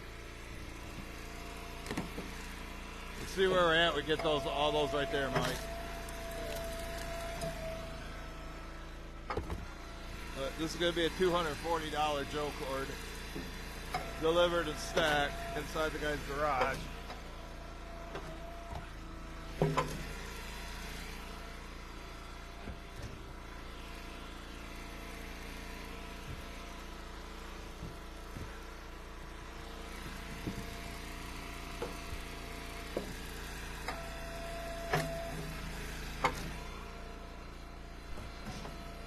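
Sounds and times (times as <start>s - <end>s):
small gas engine running: 0.0s - 39.0s.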